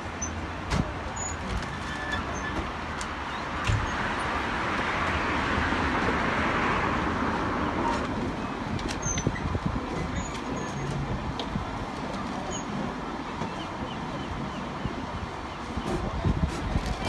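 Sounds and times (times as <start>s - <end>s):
tram rumbling: 0.0s - 17.0s.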